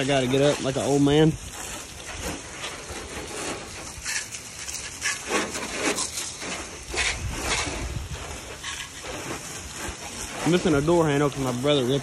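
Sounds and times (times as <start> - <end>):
hose water splattering on truck: 0.0 - 12.0.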